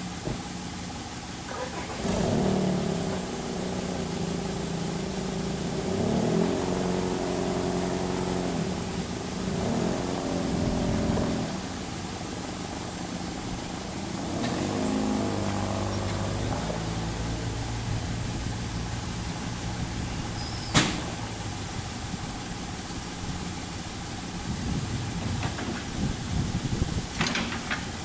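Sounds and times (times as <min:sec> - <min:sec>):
vehicle engine revving: 0:01.4 - 0:27.0.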